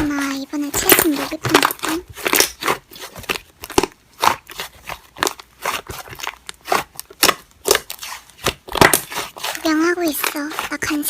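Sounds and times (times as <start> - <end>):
slime squished by hand: 0.0 - 11.0.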